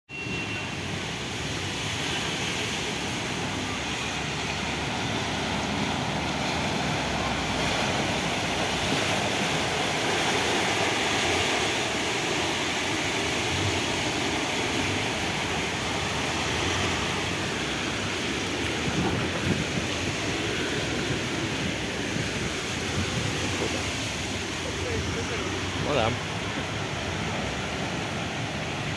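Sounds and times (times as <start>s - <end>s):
heavy rain on floodwater: 0.1s - 28.9s.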